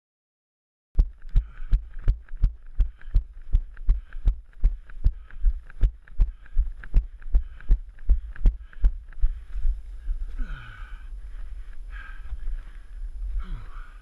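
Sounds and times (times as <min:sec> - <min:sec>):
running footsteps thudding: 0:01.0 - 0:13.9
hard breathing: 0:01.1 - 0:14.0.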